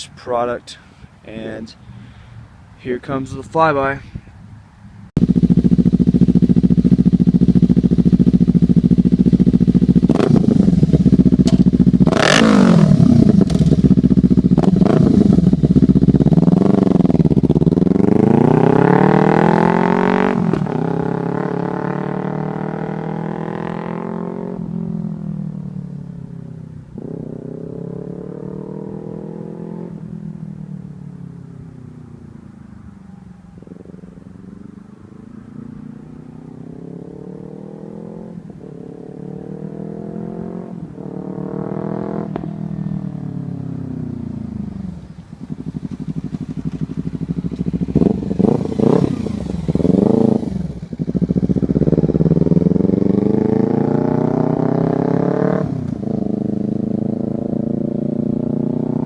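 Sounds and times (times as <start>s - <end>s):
motorcycle engine accelerating: 5.2s - 59.0s.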